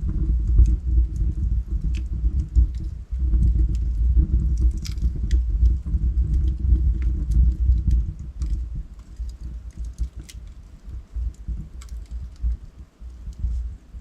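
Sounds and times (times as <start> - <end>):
log fire crackling and popping: 0.0 - 14.0.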